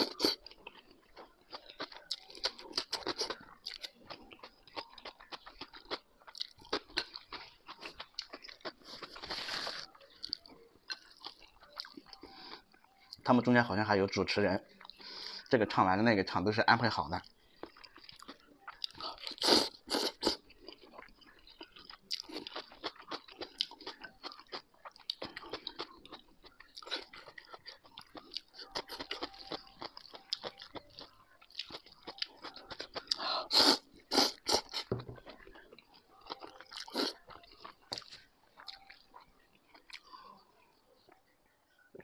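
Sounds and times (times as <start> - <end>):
wet chewing: 0.0 - 13.2, 17.2 - 40.4.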